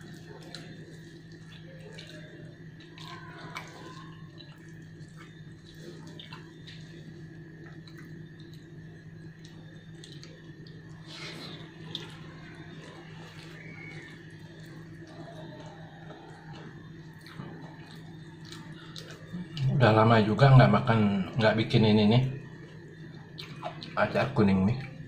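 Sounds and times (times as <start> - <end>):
chewing and mouth sounds: 0.0 - 19.8, 23.0 - 24.0
low background hum: 0.0 - 25.0.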